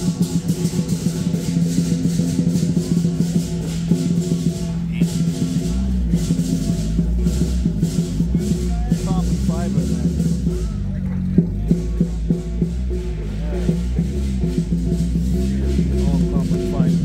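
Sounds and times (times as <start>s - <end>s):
music with shaker percussion: 0.0s - 17.0s.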